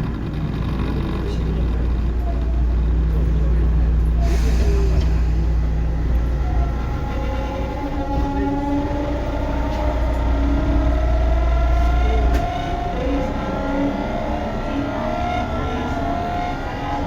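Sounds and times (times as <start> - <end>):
electric train motor whine: 0.0 - 17.0
wheels rumbling on rails: 0.0 - 17.0.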